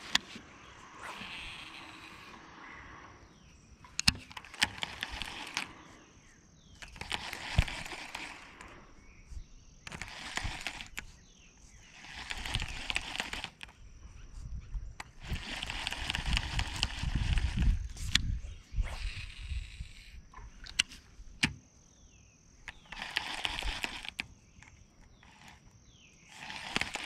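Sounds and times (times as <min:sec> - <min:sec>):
sharp clicks: 0:00.0 - 0:03.0, 0:03.8 - 0:14.0, 0:14.7 - 0:21.6, 0:22.6 - 0:27.0
fishing reel whirring: 0:00.0 - 0:21.1, 0:22.6 - 0:27.0.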